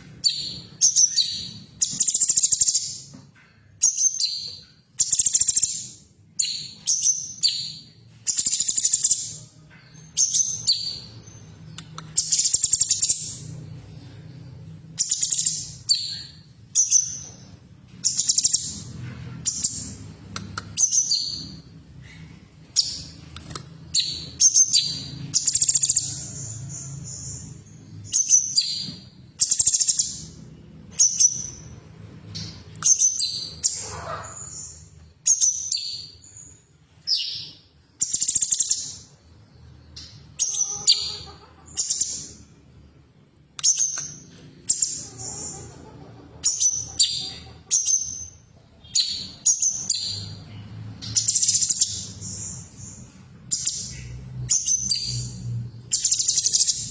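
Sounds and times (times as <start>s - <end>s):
bird chirping and whistling: 0.1s - 3.1s, 3.8s - 9.4s, 10.1s - 13.5s, 15.0s - 20.0s, 20.7s - 21.6s, 22.7s - 23.2s, 23.9s - 31.8s, 32.4s - 39.1s, 40.0s - 42.4s, 43.6s - 45.5s, 46.4s - 50.4s, 51.0s - 56.9s.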